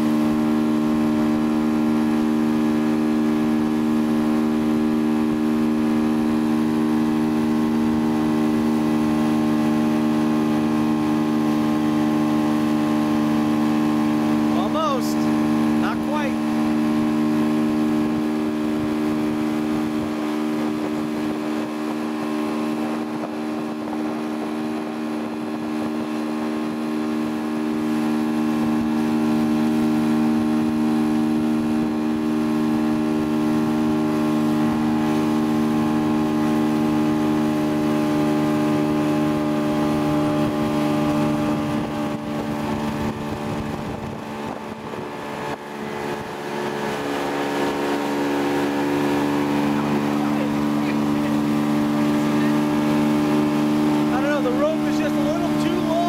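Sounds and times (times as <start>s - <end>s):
motorboat engine droning: 0.0s - 56.0s.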